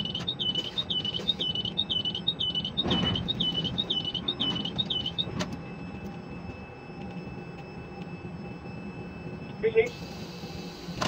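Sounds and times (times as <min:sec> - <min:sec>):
crane machinery drone: 0:00.0 - 0:11.0
electronic warning alarm: 0:00.0 - 0:11.0.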